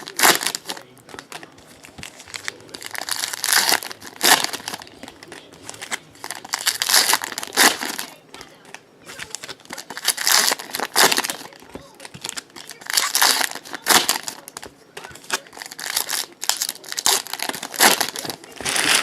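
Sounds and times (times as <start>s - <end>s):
wrappers tearing and crumpling: 0.0s - 1.4s, 2.0s - 8.2s, 9.1s - 19.0s.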